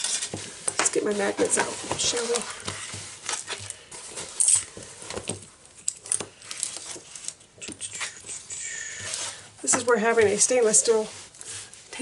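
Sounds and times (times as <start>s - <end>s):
plastic cover rustling: 0.0s - 12.0s.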